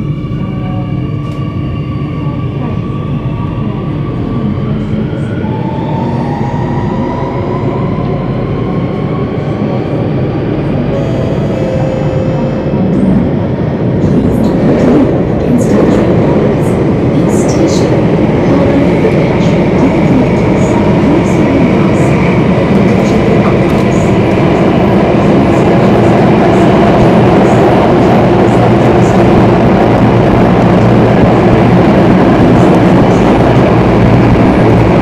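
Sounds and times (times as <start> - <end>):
train rumbling through tunnel: 0.0 - 35.0.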